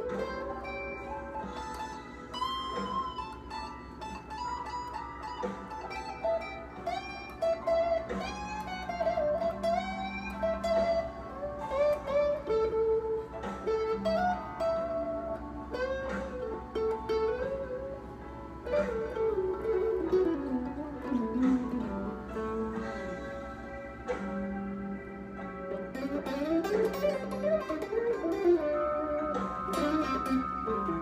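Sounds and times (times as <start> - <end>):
electric guitar blues lead: 0.0 - 31.0.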